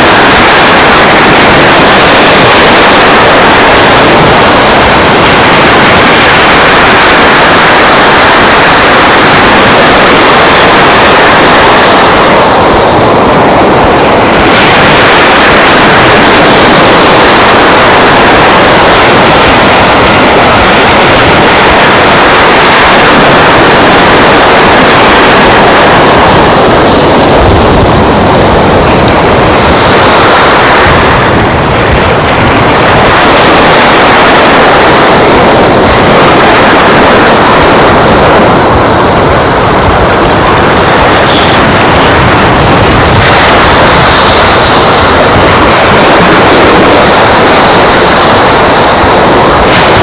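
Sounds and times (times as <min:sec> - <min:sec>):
wind and surf rushing: 0:00.0 - 0:50.0
wind buffeting microphone: 0:00.0 - 0:50.0.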